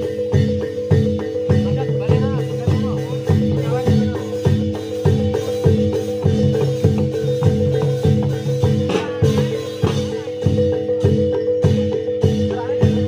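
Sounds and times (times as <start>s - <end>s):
drum beating: 0.0s - 13.0s.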